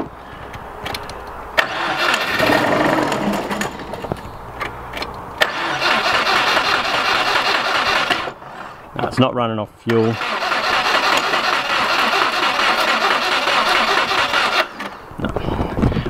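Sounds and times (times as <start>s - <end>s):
car engine cranking and catching: 0.4s - 8.5s, 9.9s - 15.1s.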